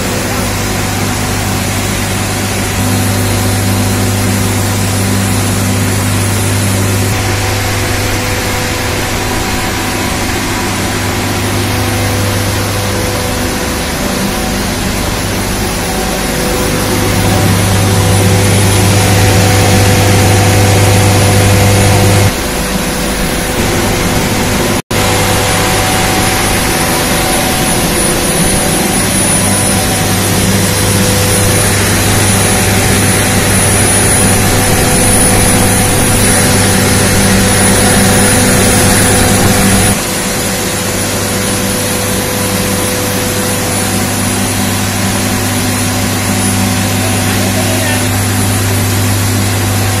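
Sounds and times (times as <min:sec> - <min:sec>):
constant hum: 0:00.0 - 0:50.0
high steady whine: 0:00.0 - 0:50.0
steam turbine hiss and drone: 0:00.0 - 0:50.0.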